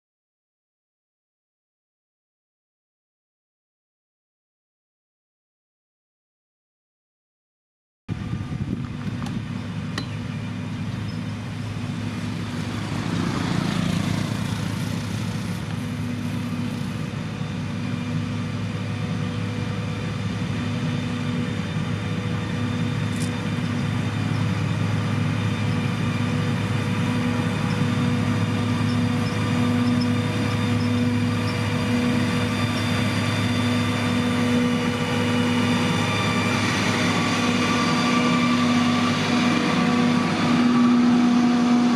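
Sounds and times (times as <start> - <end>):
heavy diesel engine running: 8.1 - 41.9.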